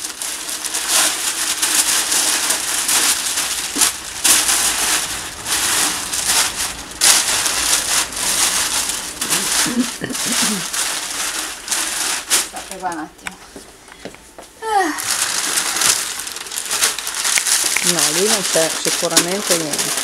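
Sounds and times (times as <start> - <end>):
packing paper rustling and crumpling: 0.0 - 20.0.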